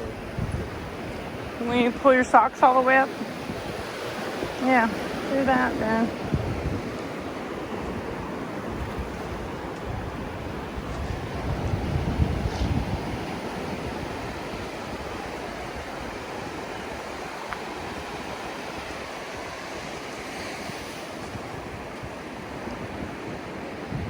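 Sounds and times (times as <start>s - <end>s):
ocean surf washing onto beach: 0.0s - 24.0s
wind buffeting microphone: 0.0s - 24.0s.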